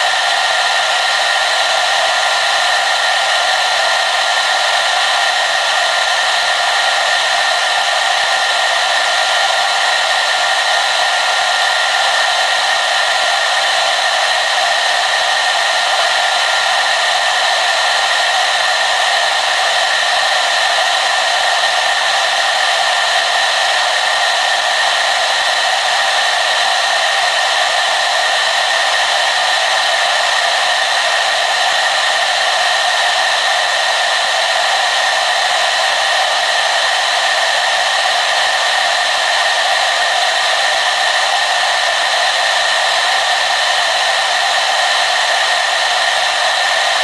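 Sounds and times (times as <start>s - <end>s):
hair dryer running: 0.0s - 47.0s.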